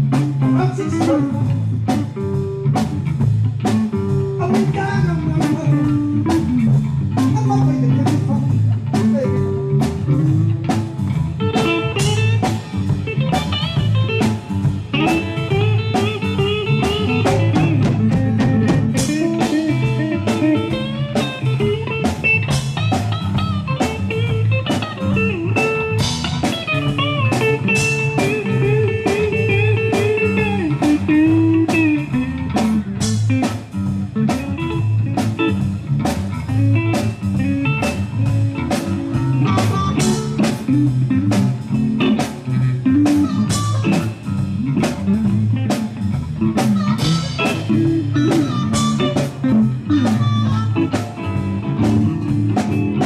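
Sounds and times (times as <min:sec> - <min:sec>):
bass: 0:00.0 - 0:53.0
drum kit beat: 0:00.0 - 0:53.0
electric guitar lead bending notes: 0:00.0 - 0:53.0.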